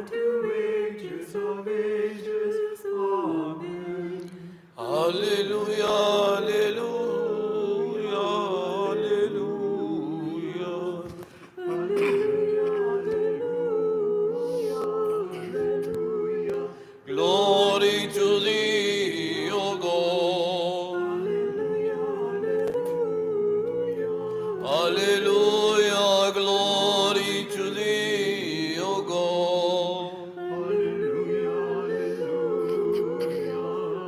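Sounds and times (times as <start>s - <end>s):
choir chanting: 0.0s - 34.0s.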